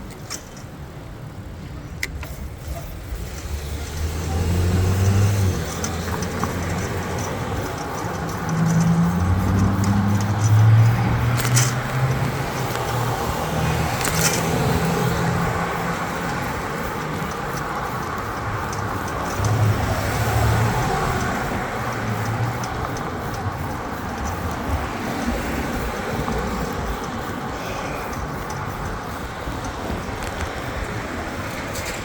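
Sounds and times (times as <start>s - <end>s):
cars passing: 0.0s - 32.0s
roadway noise: 0.0s - 32.0s.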